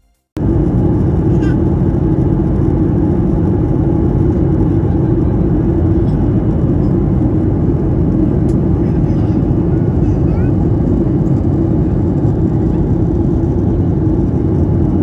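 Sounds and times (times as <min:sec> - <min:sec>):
jet engines droning: 0:00.4 - 0:15.0.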